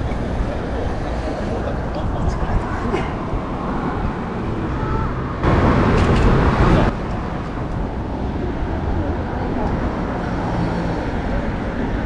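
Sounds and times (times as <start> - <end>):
loud rush of noise: 0.0 - 12.0
street traffic rumble: 0.0 - 12.0.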